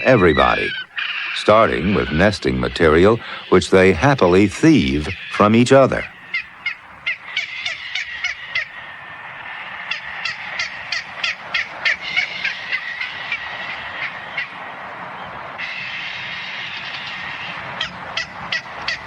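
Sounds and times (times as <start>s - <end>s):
seabird high calls: 0.0s - 19.0s
steady background hiss: 0.0s - 19.0s.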